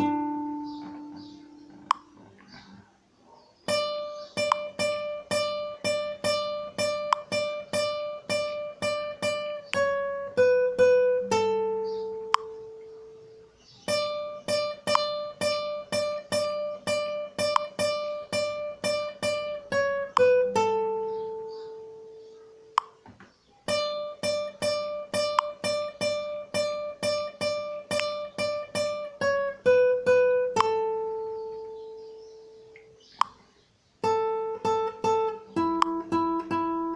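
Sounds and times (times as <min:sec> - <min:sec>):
guitar picking a melody: 0:00.0 - 0:02.8, 0:03.6 - 0:33.4, 0:34.0 - 0:36.9.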